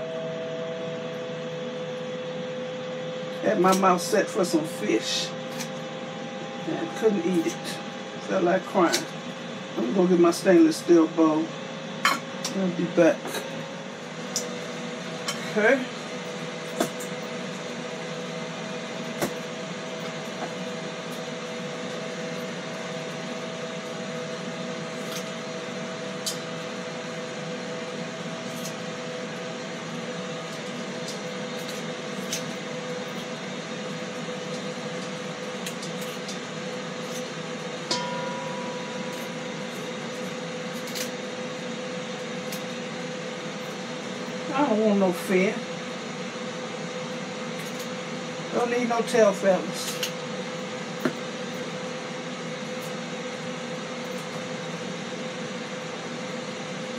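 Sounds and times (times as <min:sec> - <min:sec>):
grill fan whirring hum: 0:00.0 - 0:56.9.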